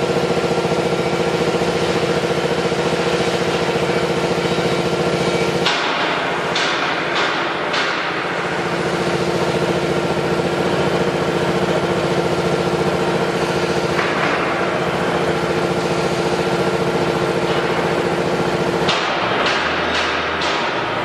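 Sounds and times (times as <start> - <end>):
pile driver pounding: 0.0 - 21.0.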